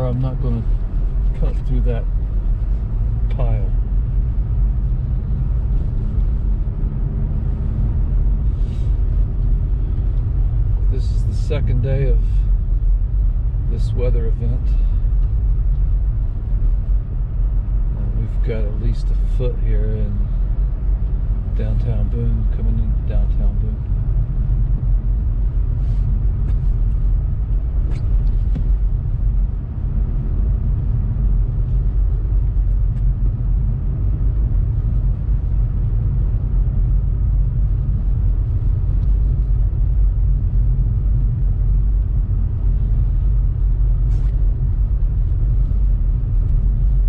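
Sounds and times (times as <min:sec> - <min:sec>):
car driving on snow: 0:00.0 - 0:47.0.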